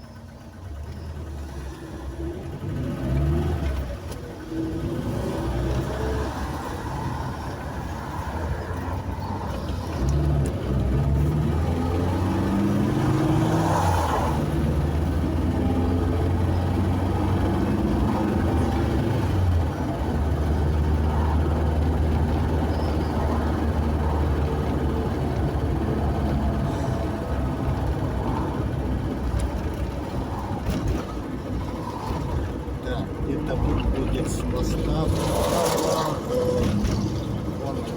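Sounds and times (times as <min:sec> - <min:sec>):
car engine hum: 0:00.0 - 0:37.9
road noise: 0:00.0 - 0:37.9.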